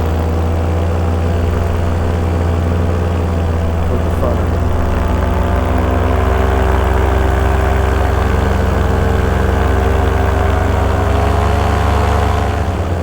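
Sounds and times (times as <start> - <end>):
paramotor engine and propeller: 0.0 - 13.0.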